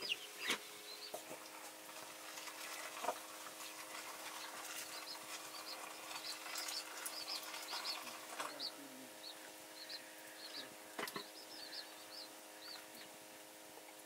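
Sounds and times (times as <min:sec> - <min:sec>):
faint steady hum: 0:00.0 - 0:14.0
small birds chirping: 0:00.0 - 0:14.0.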